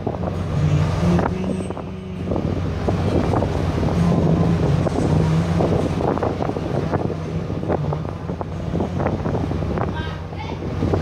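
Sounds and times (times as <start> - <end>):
churning wake rushing: 0.0 - 11.0
ferry engines droning: 0.0 - 11.0
wind buffeting microphone: 0.0 - 11.0.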